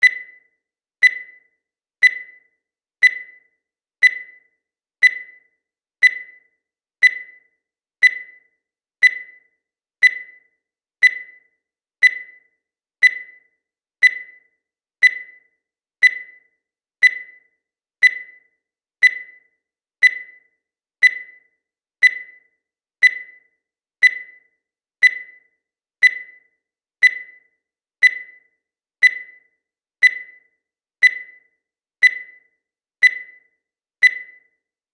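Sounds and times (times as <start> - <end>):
countdown timer beeping: 0.0 - 34.7.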